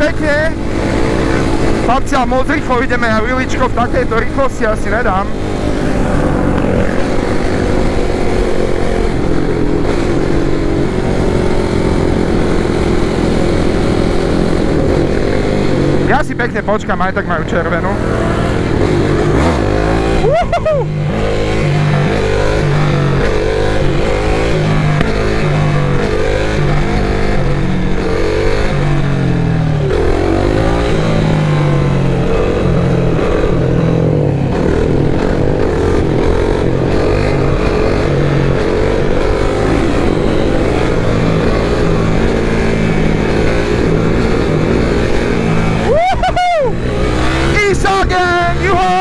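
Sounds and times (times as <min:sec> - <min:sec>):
motorcycle engine revving and idling: 0:00.0 - 0:49.0.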